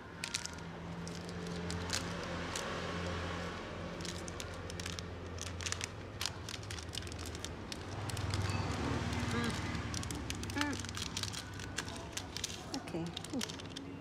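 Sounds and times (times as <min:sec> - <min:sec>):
plastic packet crinkling: 0:00.0 - 0:14.0.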